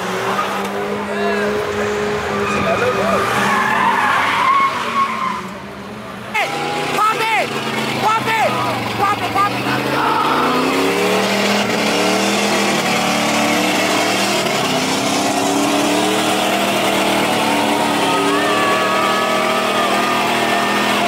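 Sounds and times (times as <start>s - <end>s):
car engine revving hard: 0.0s - 21.0s
tyres spinning roar: 0.0s - 21.0s.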